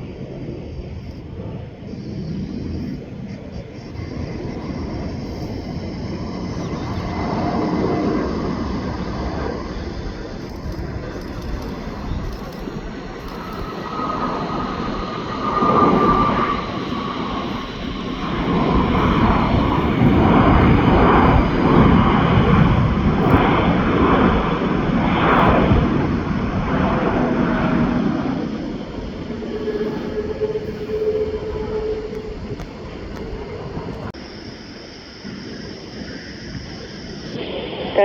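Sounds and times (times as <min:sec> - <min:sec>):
faint high engine whine: 0:00.0 - 0:38.0
jet engines rumbling: 0:00.0 - 0:38.0.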